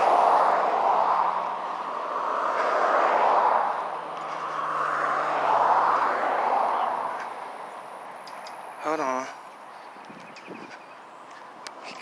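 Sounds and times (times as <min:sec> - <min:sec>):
passing vehicles rushing: 0:00.0 - 0:12.0.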